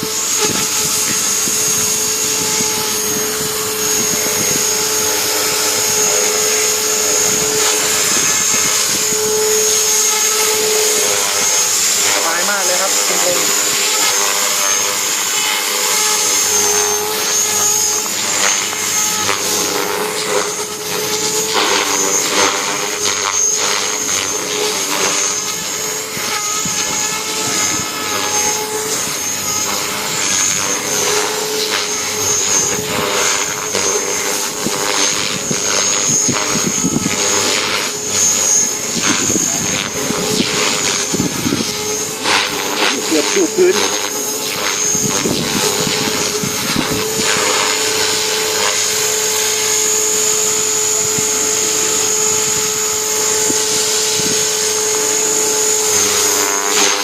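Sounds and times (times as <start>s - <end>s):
model helicopter motor whine: 0.0s - 57.0s.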